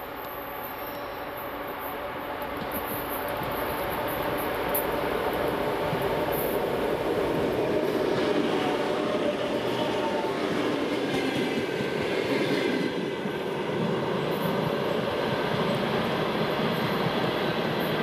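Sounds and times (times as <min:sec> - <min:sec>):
diesel locomotive engine: 0:00.0 - 0:18.0
train wheels clacking over rails: 0:02.4 - 0:18.0.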